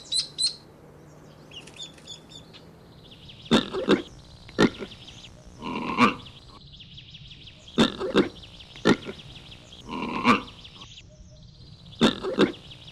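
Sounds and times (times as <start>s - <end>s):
steady high buzzing: 0.0s - 12.9s.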